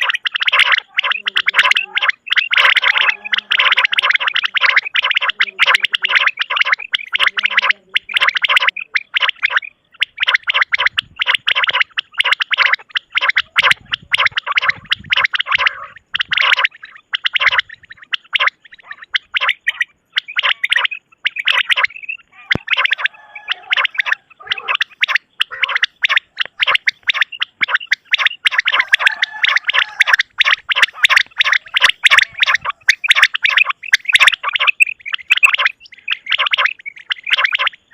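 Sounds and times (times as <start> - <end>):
quails calling: 0.0 - 37.9.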